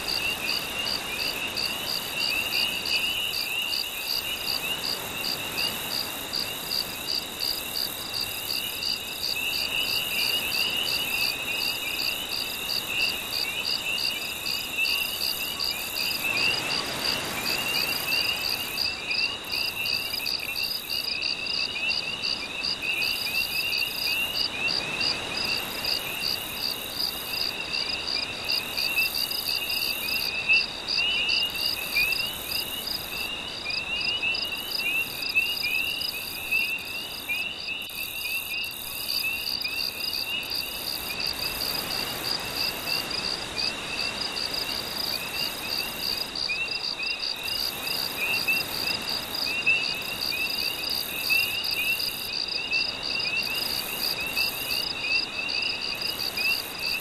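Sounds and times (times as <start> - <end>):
crickets trilling: 0.0 - 57.0
frogs chirping: 0.0 - 57.0.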